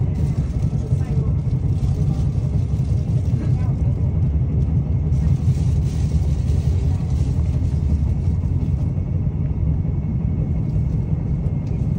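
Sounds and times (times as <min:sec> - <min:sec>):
train rumble from inside carriage: 0:00.0 - 0:11.9.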